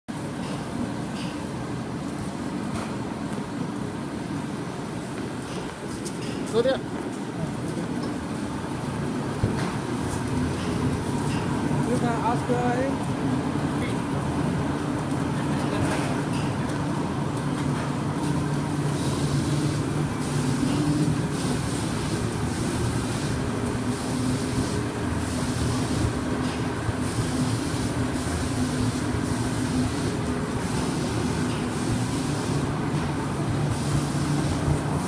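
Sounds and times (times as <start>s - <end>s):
machine low mechanical hum: 0.1s - 35.0s.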